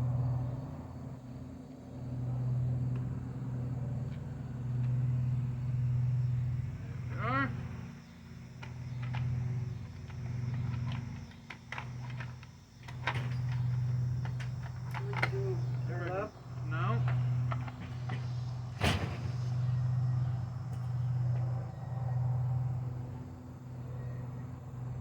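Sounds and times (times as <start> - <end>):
low engine-like hum: 0.0 - 25.0.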